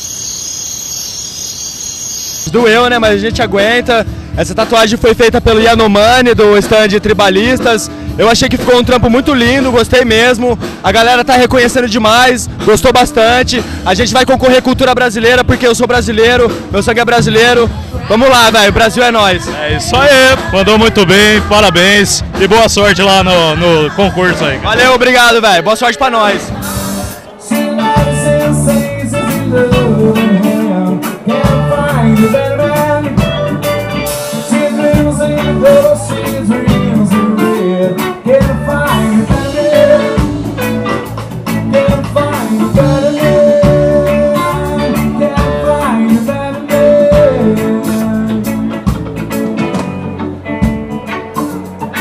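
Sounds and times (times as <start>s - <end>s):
electric guitar lead line: 0.0s - 52.0s
bass guitar: 2.4s - 25.6s, 26.2s - 52.0s
drum kit: 2.4s - 25.6s, 26.3s - 52.0s.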